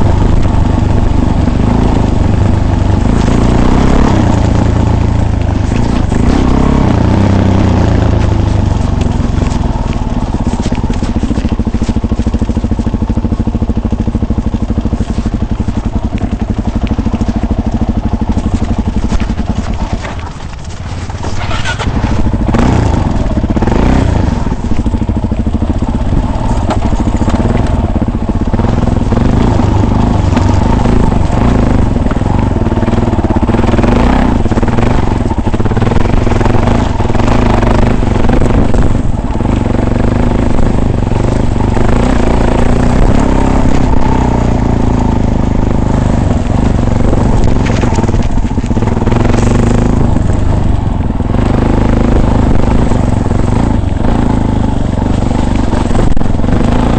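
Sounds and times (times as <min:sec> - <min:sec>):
off-road vehicle engine running: 0:00.0 - 0:56.9.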